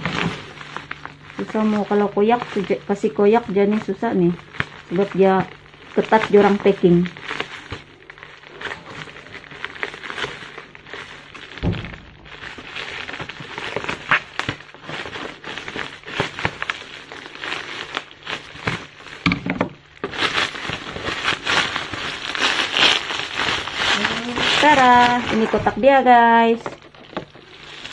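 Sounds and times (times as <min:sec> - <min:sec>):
bubble wrap crinkling: 0:00.0 - 0:27.9.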